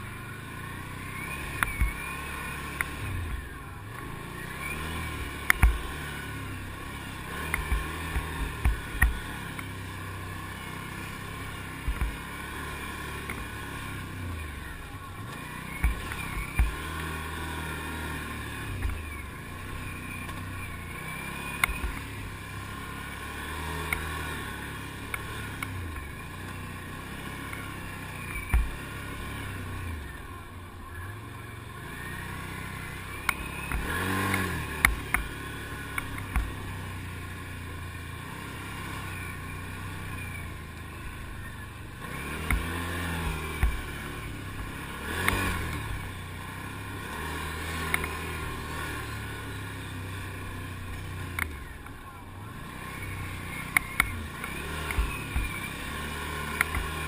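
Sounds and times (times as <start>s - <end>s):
quad bike engine: 0.0s - 57.0s.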